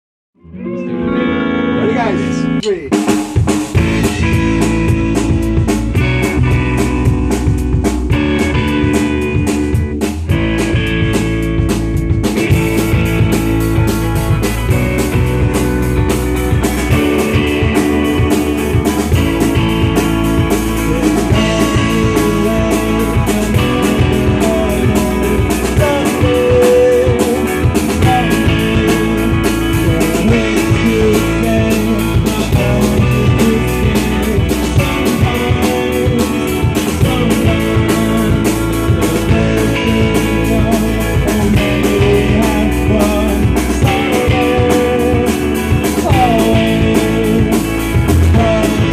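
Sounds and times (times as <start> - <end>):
bending guitar lead line: 0.4 - 48.9
guitars: 0.4 - 48.9
steady drum beat: 2.0 - 48.9.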